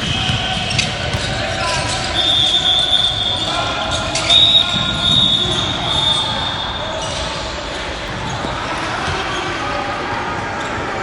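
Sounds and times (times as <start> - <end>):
basketball bouncing: 0.0 - 10.7
voices echoing in a hall: 0.0 - 11.0.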